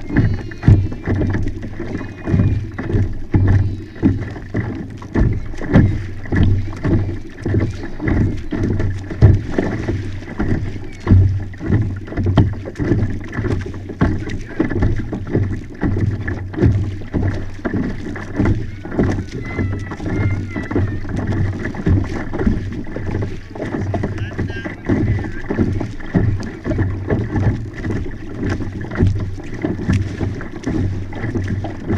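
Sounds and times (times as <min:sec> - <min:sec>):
low rumble of water: 0:00.0 - 0:31.9
waves slapping kayak hull: 0:00.0 - 0:31.9.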